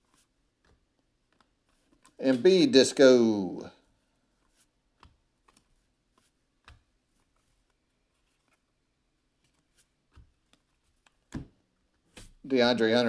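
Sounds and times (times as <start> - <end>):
cards flipping by hand: 0.0 - 2.6, 4.3 - 12.5.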